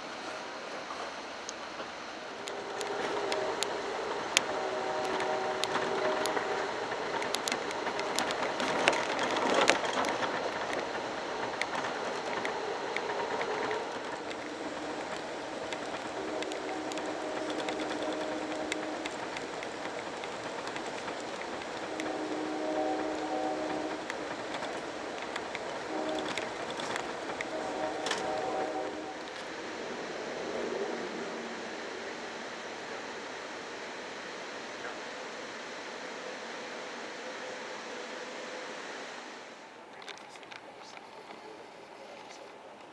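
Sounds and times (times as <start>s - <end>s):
wheels clicking on rails: 0.0s - 38.0s, 39.8s - 42.9s
train rumble: 0.0s - 42.9s
train horn blasts: 2.3s - 39.4s.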